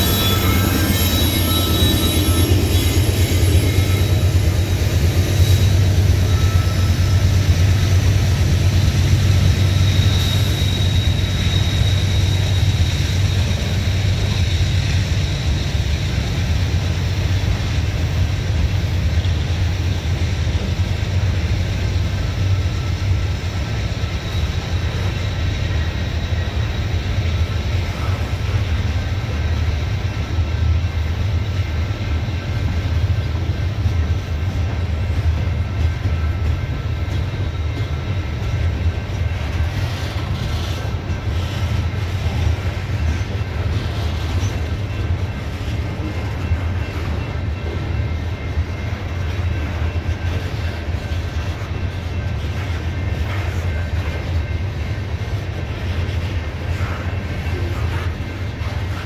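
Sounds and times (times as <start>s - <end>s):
freight cars rumbling on rails: 0.0s - 59.0s.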